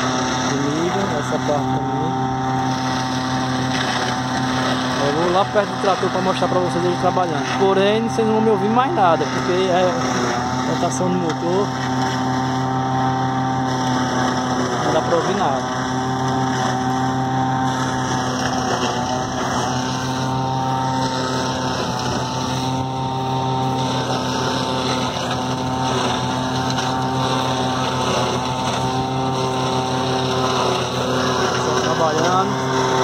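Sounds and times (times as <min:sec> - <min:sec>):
forage chopper chopping corn: 0:00.0 - 0:33.0
tractor engine at high revs: 0:00.0 - 0:33.0.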